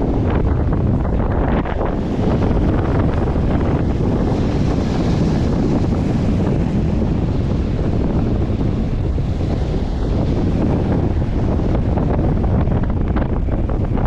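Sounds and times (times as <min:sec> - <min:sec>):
sea surf: 0:00.0 - 0:14.0
strong wind buffeting microphone: 0:00.0 - 0:14.0.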